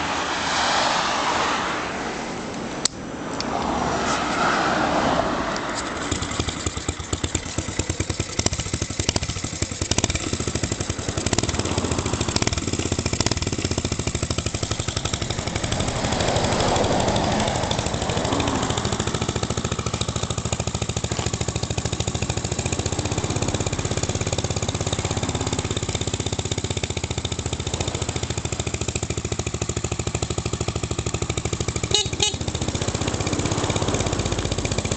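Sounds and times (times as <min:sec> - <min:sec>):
small motorcycle engine revving: 0:05.4 - 0:34.9.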